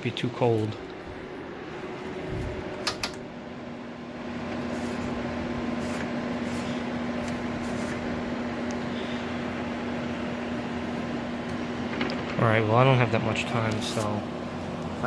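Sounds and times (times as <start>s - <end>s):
air conditioner fan humming: 0.0s - 15.0s.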